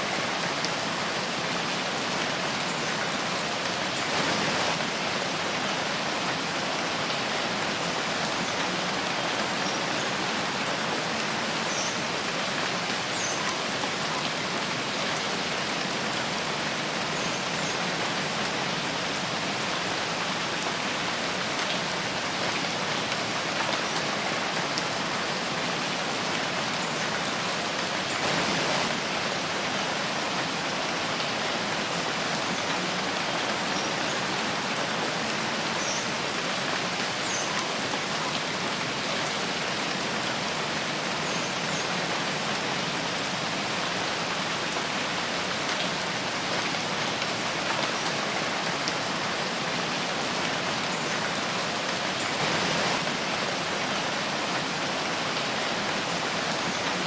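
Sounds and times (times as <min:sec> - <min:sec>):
rain falling in a forest: 0:00.0 - 0:57.0.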